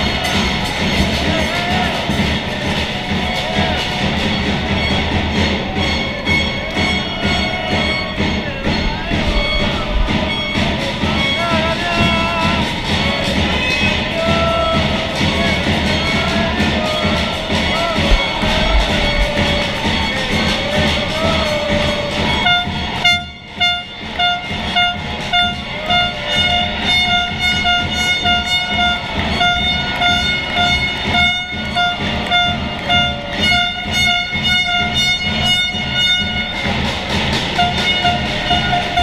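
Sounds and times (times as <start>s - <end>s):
electronic music with bass beat: 0.0s - 39.0s
horn-like synth stabs: 0.0s - 39.0s.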